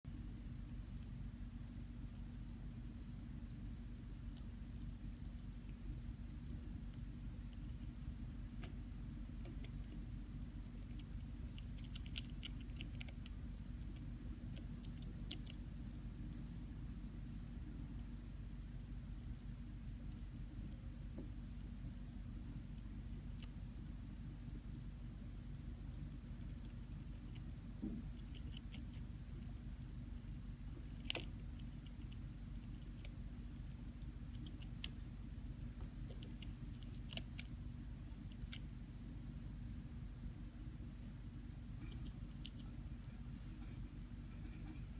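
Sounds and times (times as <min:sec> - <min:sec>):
hamster nibbling cabbage: 0:00.0 - 0:44.9
steady low hum: 0:00.0 - 0:44.9.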